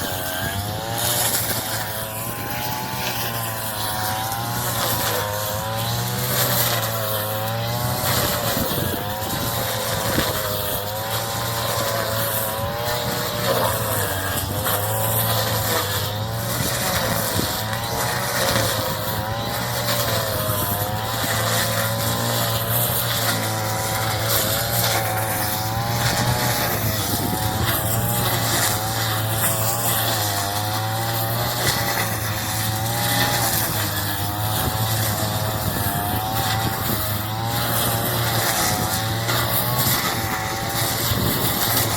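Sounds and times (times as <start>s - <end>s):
straw-cutting machine engine: 0.0s - 41.9s.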